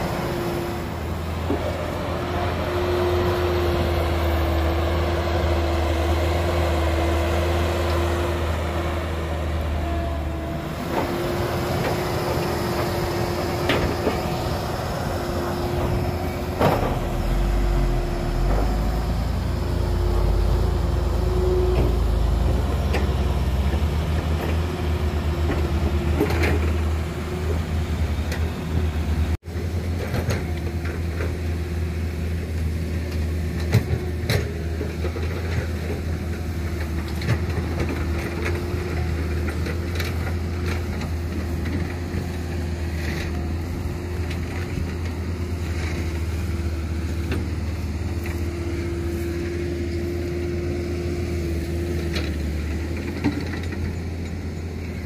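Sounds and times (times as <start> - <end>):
diesel engines rumbling: 0.0 - 55.0.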